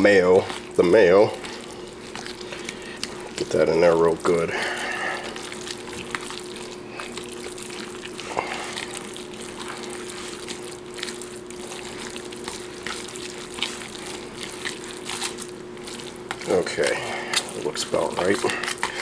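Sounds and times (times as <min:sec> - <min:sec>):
fork stirring wet food: 0:00.0 - 0:19.0
steady low hum: 0:00.0 - 0:19.0.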